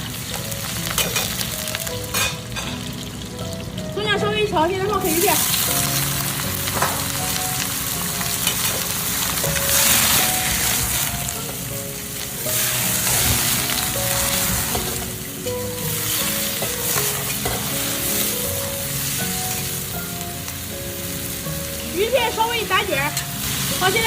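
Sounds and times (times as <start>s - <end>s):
fish sizzling in hot oil: 0.0s - 24.0s.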